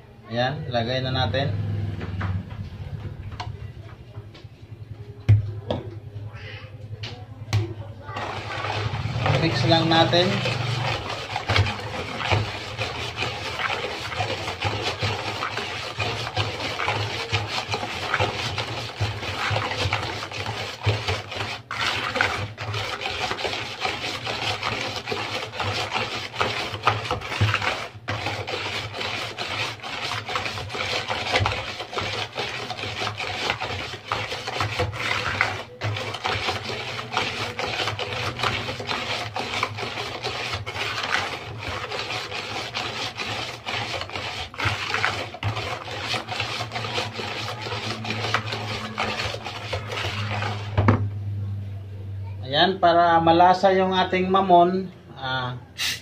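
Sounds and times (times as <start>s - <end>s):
whisk beating batter in a bowl: 0.4s - 1.5s, 7.5s - 51.2s.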